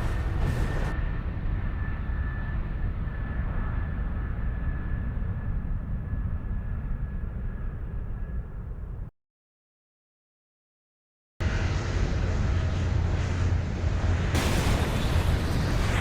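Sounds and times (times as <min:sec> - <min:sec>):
airliner low rumble: 0:00.0 - 0:09.1, 0:11.4 - 0:16.0.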